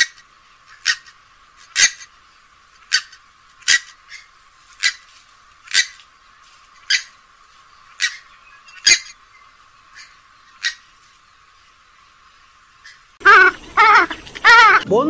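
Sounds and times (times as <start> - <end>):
swamphen calling: 0.0 - 15.0.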